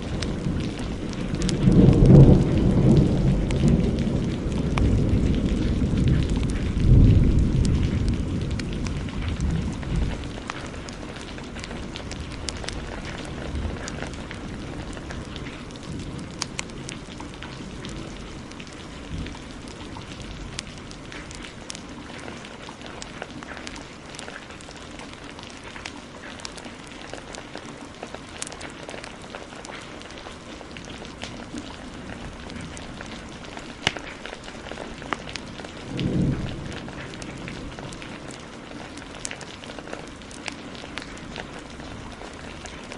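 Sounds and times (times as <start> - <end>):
low thunder rumble: 0.0 - 24.1, 30.6 - 42.9
heavy rain: 0.0 - 42.9
sharp crackles: 0.0 - 42.9.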